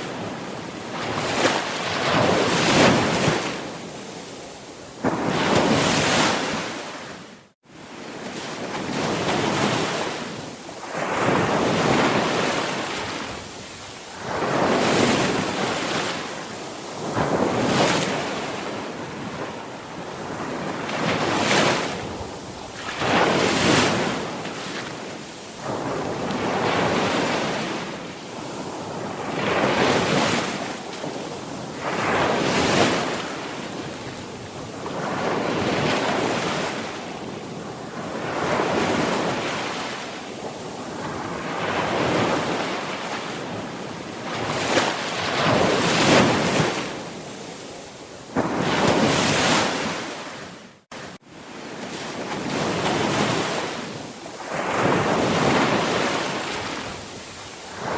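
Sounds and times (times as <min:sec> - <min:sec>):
sea waves breaking on shore: 0:00.0 - 0:57.9.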